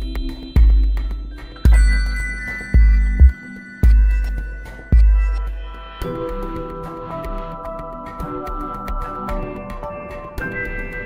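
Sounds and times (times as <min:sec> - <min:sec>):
low pulsing beat: 0:00.0 - 0:09.8.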